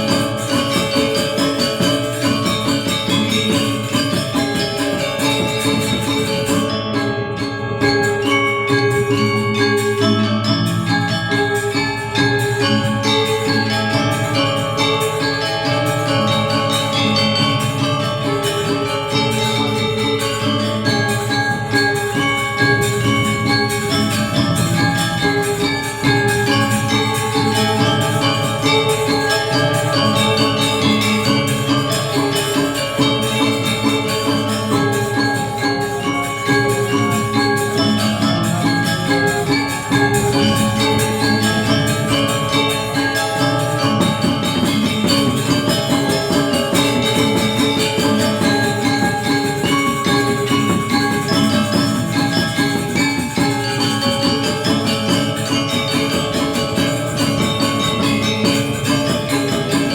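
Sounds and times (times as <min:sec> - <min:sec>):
gamelan metallophones ringing: 0:00.0 - 0:59.9.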